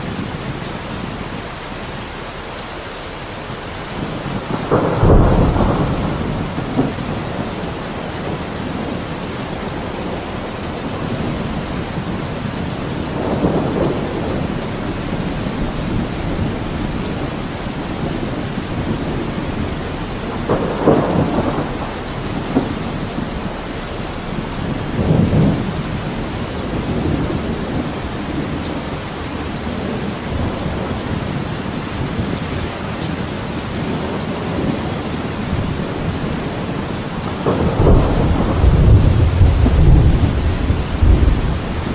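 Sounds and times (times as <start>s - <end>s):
steady rain: 0.0s - 41.9s
thunder rolling: 4.0s - 41.9s.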